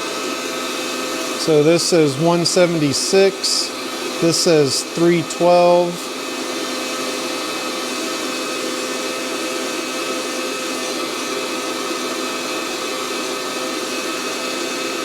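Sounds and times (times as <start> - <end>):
roaster fan blowing air: 0.0 - 15.0.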